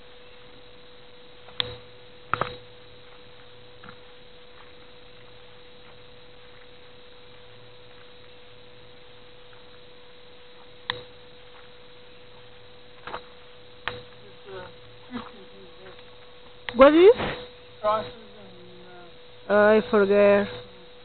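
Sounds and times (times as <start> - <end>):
faint hiss: 0.0 - 21.0
mid-pitched hum: 0.0 - 21.0.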